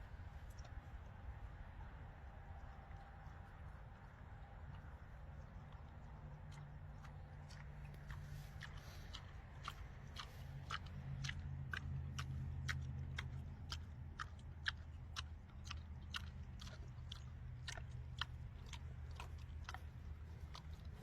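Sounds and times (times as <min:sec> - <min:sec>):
animal chewing with clicking jaws: 0:00.0 - 0:21.0.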